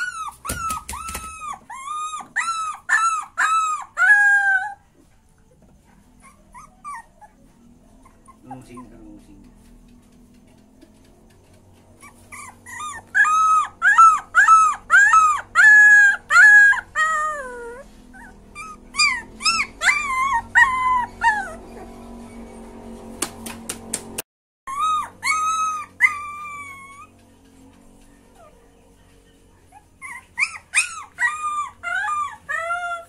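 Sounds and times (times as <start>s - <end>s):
puppy whining and crying: 0.0s - 9.5s, 11.8s - 23.1s, 24.7s - 28.9s, 29.6s - 33.0s.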